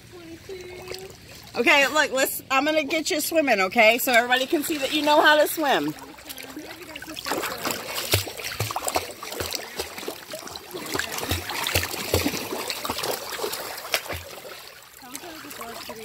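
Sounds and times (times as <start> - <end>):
water splashing: 0.1 - 16.0.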